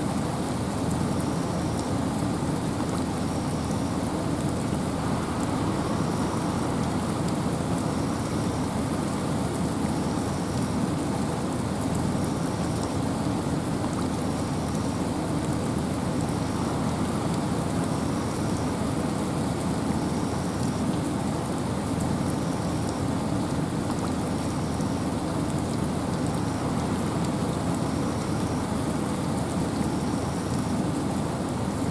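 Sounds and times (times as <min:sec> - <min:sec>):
rain and wind in forest: 0:00.0 - 0:31.9.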